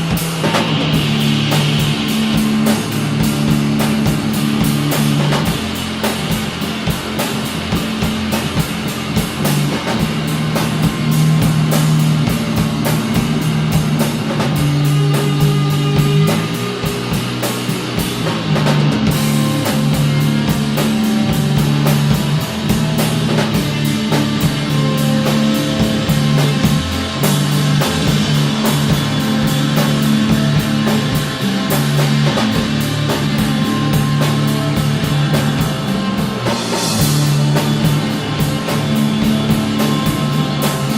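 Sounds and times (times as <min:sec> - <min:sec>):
cymbals struck rapidly: 0:00.0 - 0:40.9
drum kit: 0:00.0 - 0:40.9
electric guitar riff: 0:00.0 - 0:40.9.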